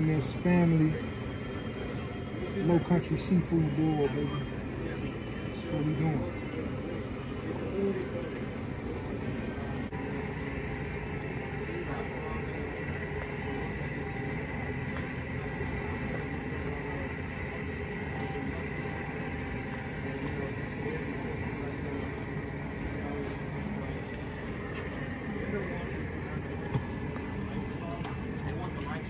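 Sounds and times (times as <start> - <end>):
boat motor rumbling: 0.0 - 29.0
faint hum: 0.0 - 29.0.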